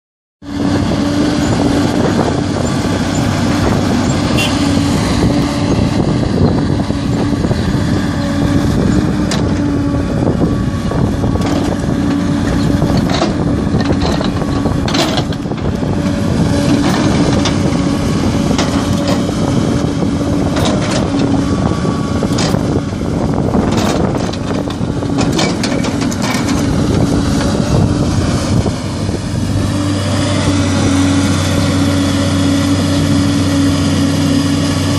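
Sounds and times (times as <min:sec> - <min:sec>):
excavator diesel engine running: 0:00.4 - 0:34.9.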